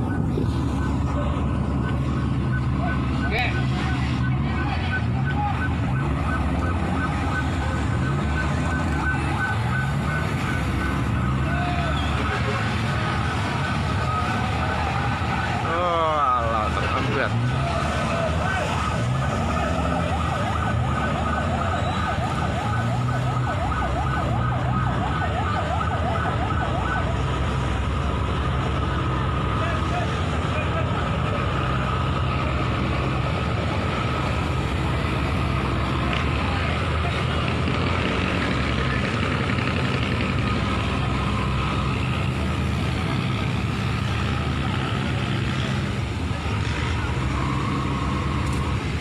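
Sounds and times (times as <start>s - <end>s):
siren yelping: 0.0s - 49.0s.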